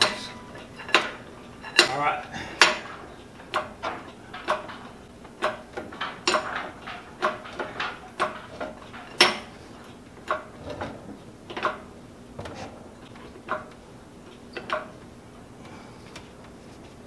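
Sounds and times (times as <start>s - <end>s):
hydraulic hoist pump clanking: 0.0s - 15.5s.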